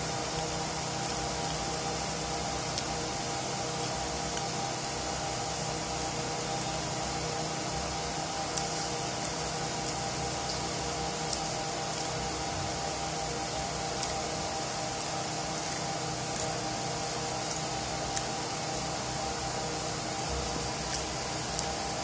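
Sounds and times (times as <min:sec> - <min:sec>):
mechanical hum and hiss: 0:00.0 - 0:22.0.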